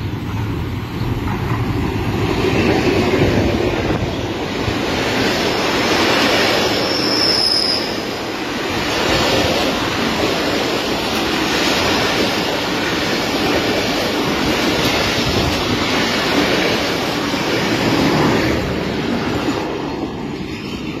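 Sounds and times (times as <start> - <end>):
train wheels on track: 0.0 - 21.0.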